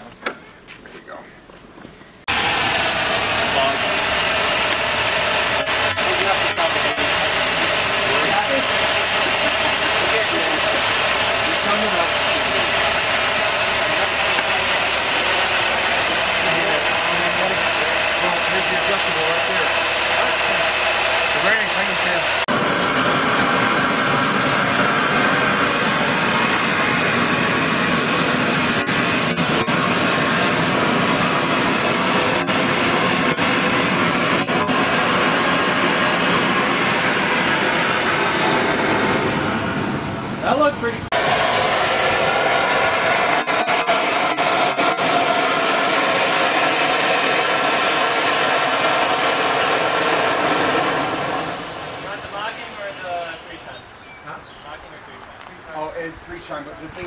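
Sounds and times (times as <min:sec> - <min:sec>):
steam hissing from boiler: 0:02.2 - 0:57.0.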